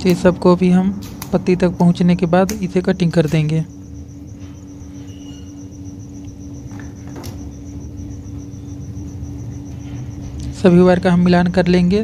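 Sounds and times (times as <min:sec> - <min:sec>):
cricket chirping: 0:00.0 - 0:12.0
steady low hum: 0:00.0 - 0:12.0.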